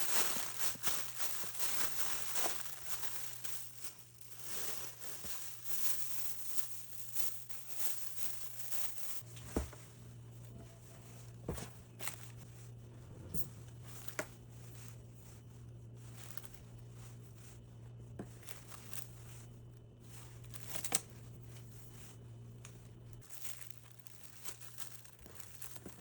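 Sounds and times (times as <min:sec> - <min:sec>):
objects rustling: 0:00.0 - 0:26.0.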